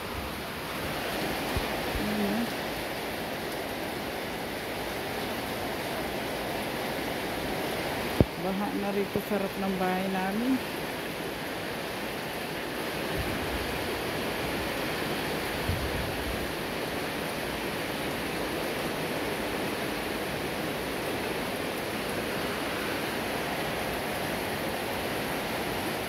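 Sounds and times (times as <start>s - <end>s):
heavy rain on concrete: 0.0s - 26.0s.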